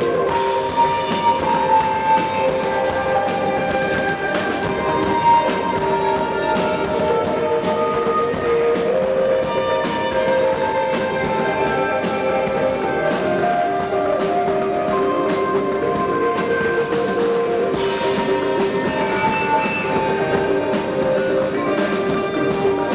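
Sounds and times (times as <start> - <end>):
live instrumental band: 0.0 - 22.9.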